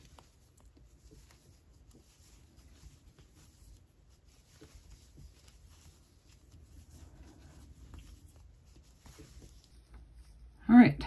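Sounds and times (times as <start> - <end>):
faint rustling of yarn: 0.0 - 11.0.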